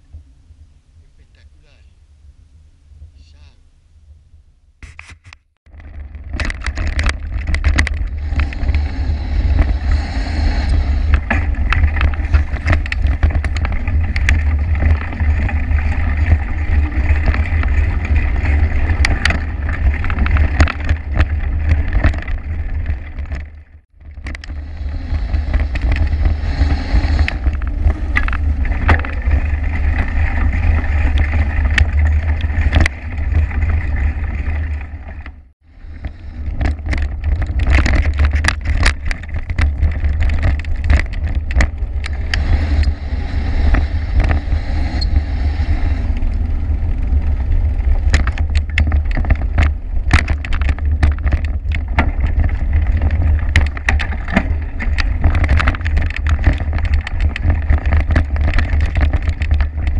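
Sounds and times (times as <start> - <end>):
wind and road vibration rumble: 0.0 - 59.9
bicycle clicks and rattles: 4.9 - 59.9.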